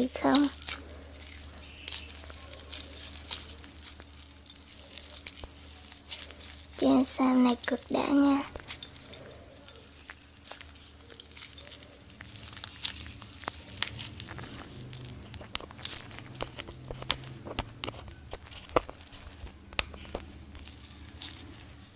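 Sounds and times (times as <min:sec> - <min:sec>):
slime crackling and popping: 0:00.0 - 0:21.9.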